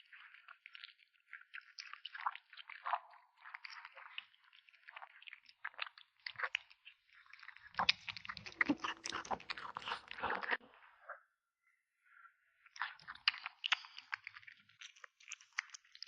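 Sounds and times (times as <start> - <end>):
kitten chewing meat: 0.0 - 10.6, 12.6 - 16.0.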